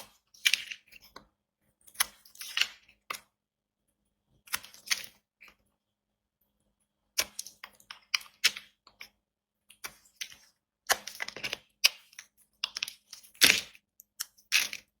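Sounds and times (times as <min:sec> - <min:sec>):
knife cutting dry soap: 0:00.0 - 0:03.4, 0:04.2 - 0:05.7, 0:07.0 - 0:15.0.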